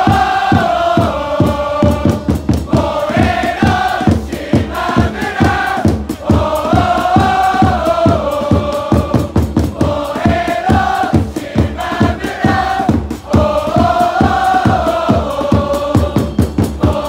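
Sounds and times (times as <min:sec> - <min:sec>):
crowd chanting in unison: 0:00.0 - 0:17.0
steady drum beat: 0:00.0 - 0:17.0.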